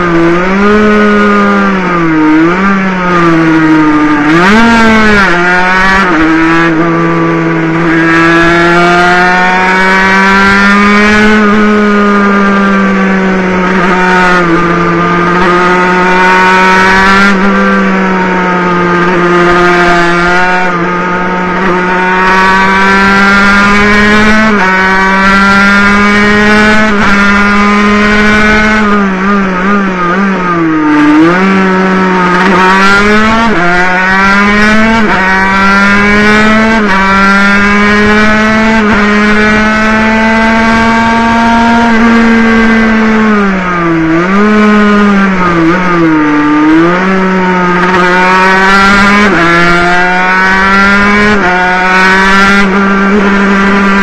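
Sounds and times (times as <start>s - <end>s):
racing motorcycle engine revving: 0.0s - 54.0s.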